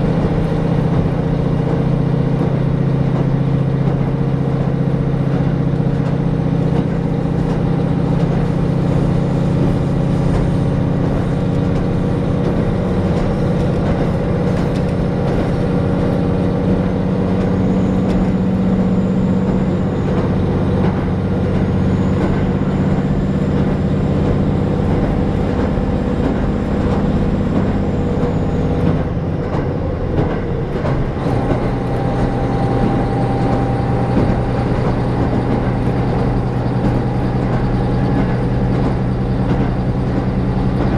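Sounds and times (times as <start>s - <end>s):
diesel engine drone: 0.0s - 40.9s
wheels rumbling on rails: 0.0s - 40.9s.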